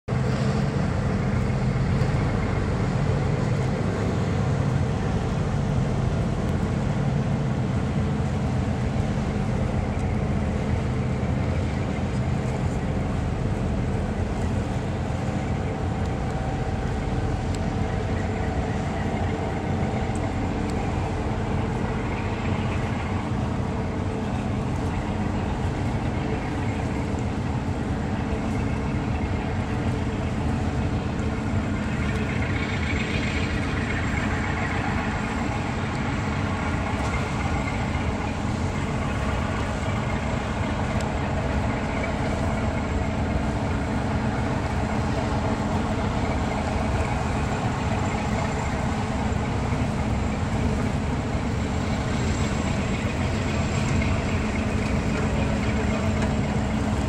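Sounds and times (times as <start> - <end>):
ship engines droning: 0.1 - 57.0.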